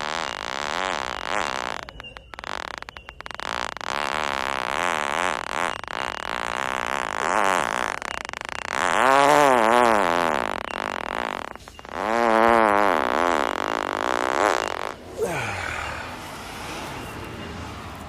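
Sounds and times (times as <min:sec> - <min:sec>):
man farting: 0:00.0 - 0:16.0.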